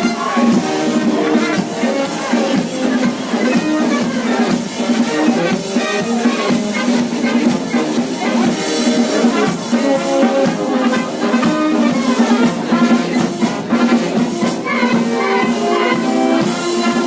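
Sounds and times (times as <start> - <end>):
music with drum beat: 0.0 - 17.0.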